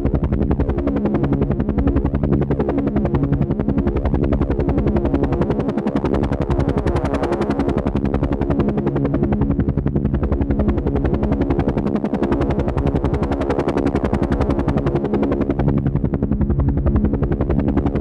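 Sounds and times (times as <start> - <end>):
helicopter rotor beating: 0.0 - 18.0.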